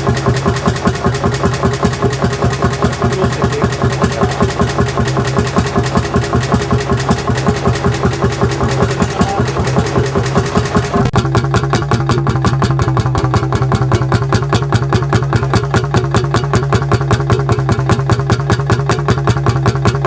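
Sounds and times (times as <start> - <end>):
single-cylinder engine running: 0.0 - 20.0.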